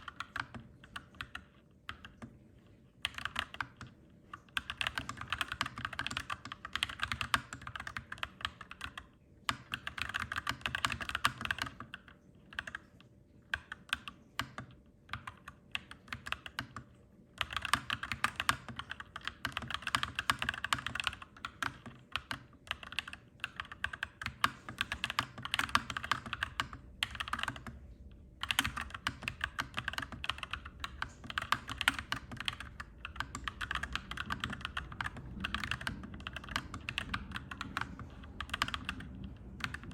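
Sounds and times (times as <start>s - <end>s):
mechanical keyboard typing: 0.0s - 27.8s, 28.4s - 39.9s
low background hum: 0.0s - 39.9s.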